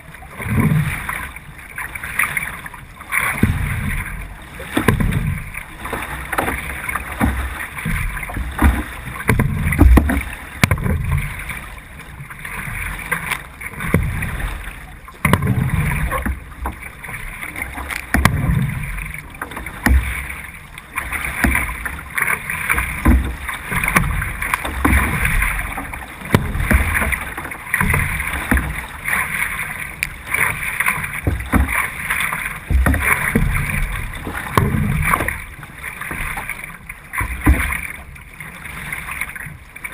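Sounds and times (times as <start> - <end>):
canoe paddle strokes: 0.0 - 39.9
rushing water: 0.0 - 39.9.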